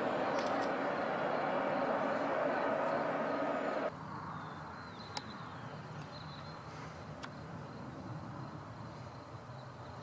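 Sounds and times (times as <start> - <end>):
distant jet engine rumble: 0.0 - 10.0.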